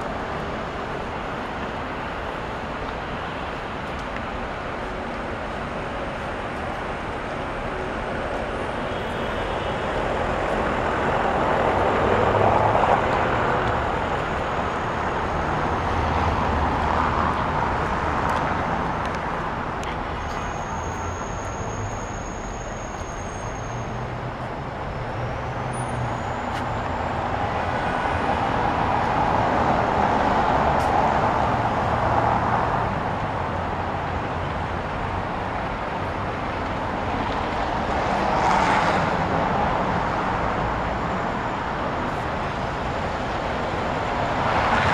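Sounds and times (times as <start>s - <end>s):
vehicles passing: 0.0s - 44.9s.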